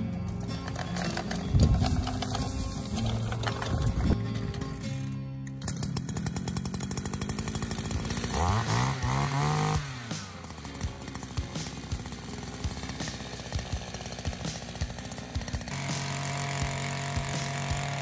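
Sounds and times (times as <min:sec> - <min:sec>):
two-stroke trimmer engine running: 0:00.0 - 0:18.0.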